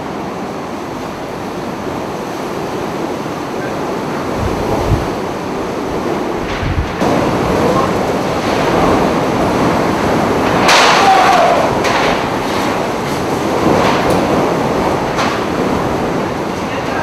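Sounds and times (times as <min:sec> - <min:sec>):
driving rain: 0:00.0 - 0:17.0
strong wind blowing: 0:00.0 - 0:17.0.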